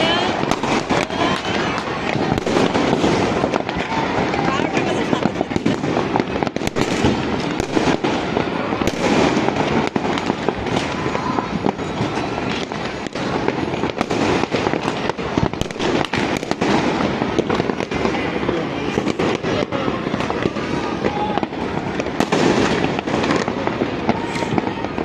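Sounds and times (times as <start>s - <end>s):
fireworks and firecrackers banging: 0.0s - 25.0s.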